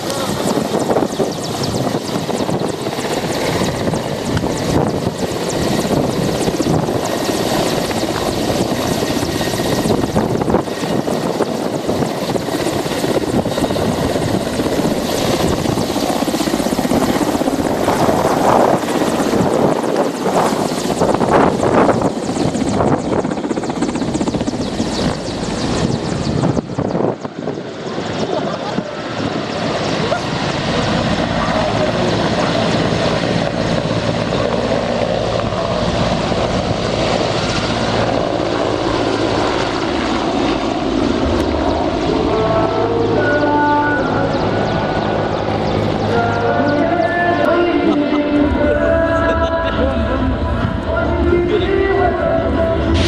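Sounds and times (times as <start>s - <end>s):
helicopter rotor and engines: 0.0s - 53.0s.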